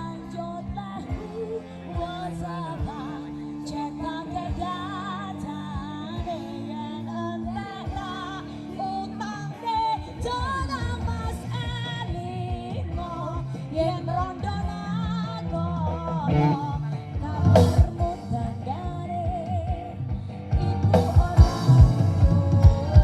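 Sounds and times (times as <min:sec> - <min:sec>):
song over pa system: 0:00.0 - 0:23.0.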